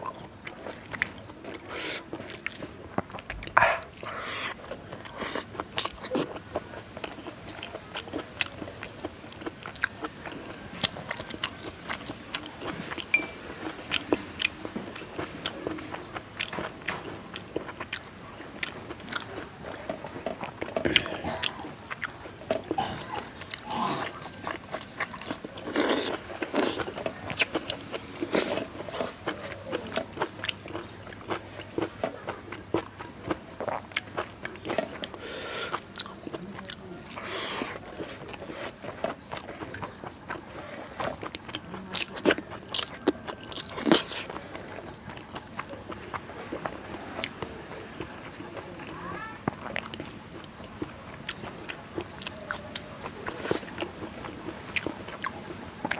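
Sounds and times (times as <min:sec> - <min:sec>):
person chewing food: 0:00.0 - 0:55.9.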